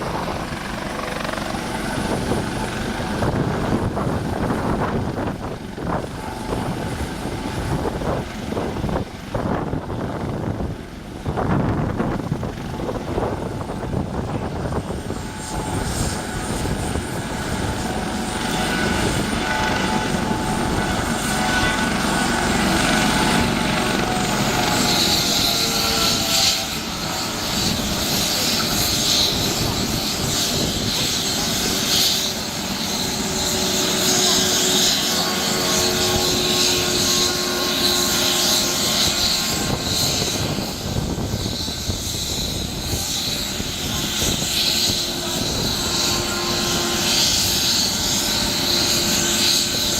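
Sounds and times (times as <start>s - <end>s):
helicopter rotor chop: 0.0s - 49.9s
turbine whine: 0.0s - 49.9s.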